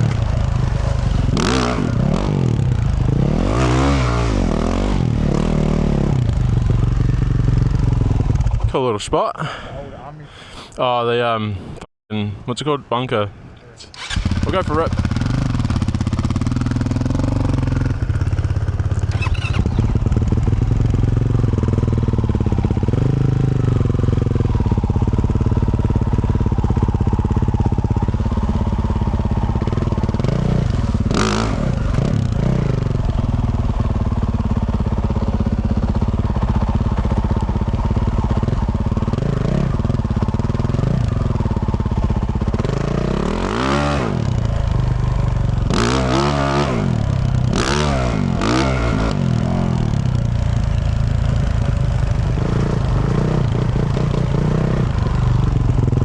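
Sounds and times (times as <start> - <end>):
dirt bike engine revving: 0.0 - 8.7, 13.9 - 56.0.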